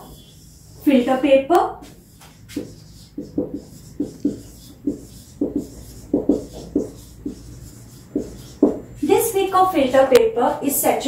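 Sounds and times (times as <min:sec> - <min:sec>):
marker writing on whiteboard: 0:00.0 - 0:10.2.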